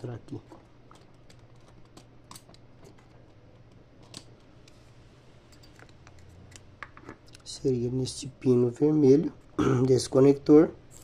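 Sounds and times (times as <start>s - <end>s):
electric fan hiss: 0.0s - 11.0s.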